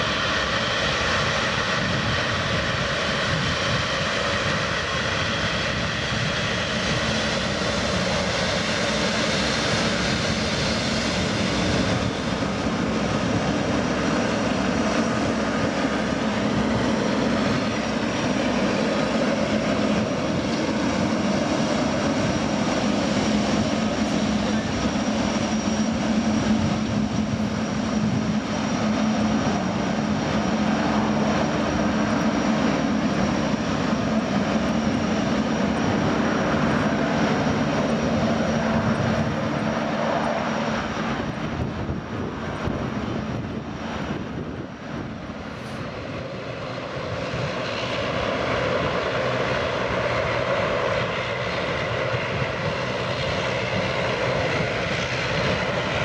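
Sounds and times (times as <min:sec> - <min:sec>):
jet engines at low thrust: 0:00.0 - 0:56.0.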